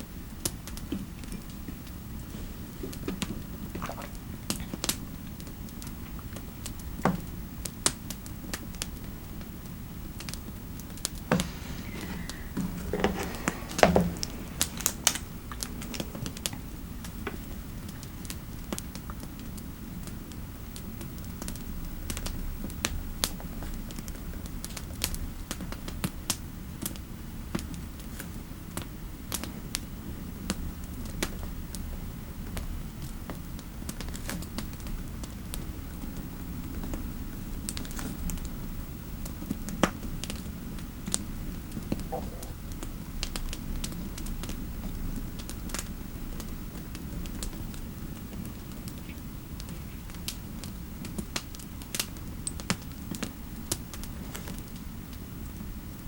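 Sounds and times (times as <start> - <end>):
low fireplace ambience: 0.0 - 56.0.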